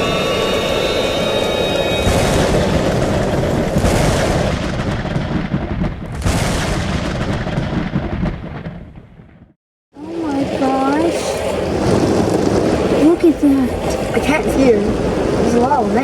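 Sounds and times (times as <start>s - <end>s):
heavy rain: 0.0s - 7.3s, 10.0s - 16.0s
deep buffeting rumble: 0.0s - 16.0s
strong wind: 0.0s - 16.0s.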